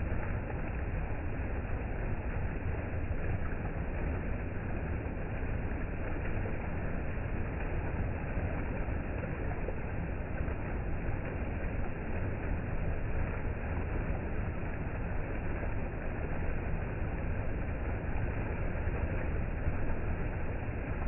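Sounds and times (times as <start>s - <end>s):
rushing creek water: 0.0s - 21.0s.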